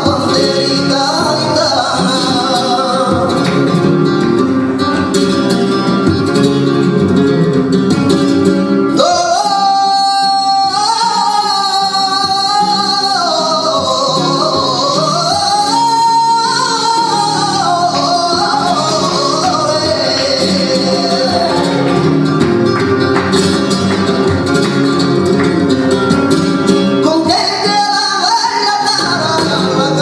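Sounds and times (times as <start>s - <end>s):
flamenco guitar playing: 0.0s - 30.0s.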